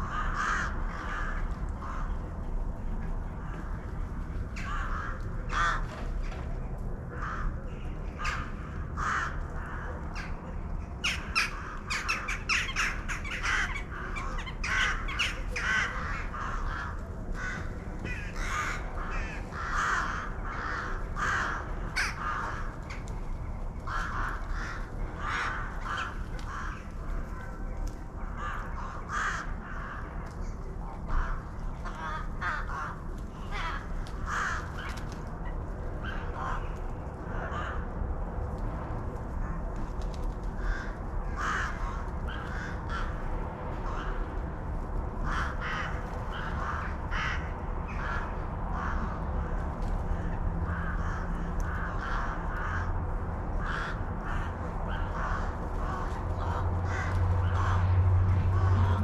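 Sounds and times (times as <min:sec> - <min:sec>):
crows cawing: 0:00.0 - 0:02.5, 0:03.4 - 0:06.4, 0:07.1 - 0:27.6, 0:28.2 - 0:30.2, 0:31.0 - 0:38.0, 0:40.4 - 0:59.0
low background rumble: 0:00.0 - 0:59.0.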